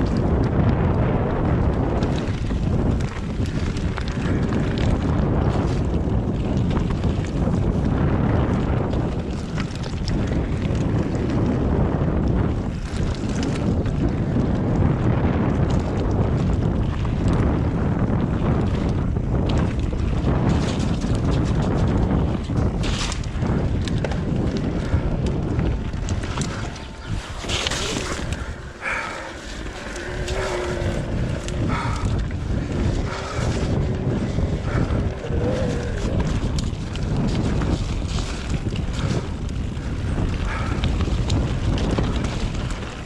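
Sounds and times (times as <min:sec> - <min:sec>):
bike rattling down rough trail: 0:00.0 - 0:43.0
wind buffeting microphone: 0:00.0 - 0:43.0.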